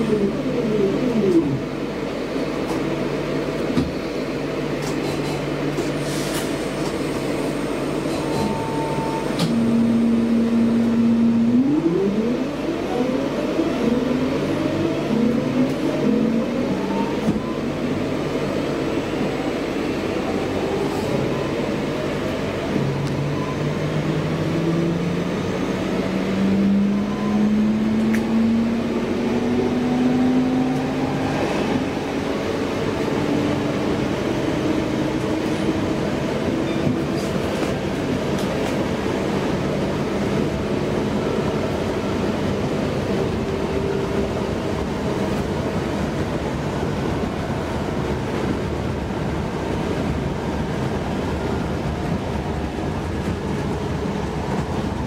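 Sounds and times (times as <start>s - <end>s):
steady train hum: 0.0s - 55.0s.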